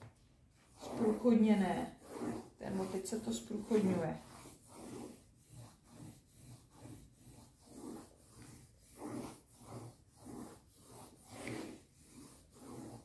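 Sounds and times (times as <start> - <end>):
pencil scribbling on paper: 0.6 - 13.0.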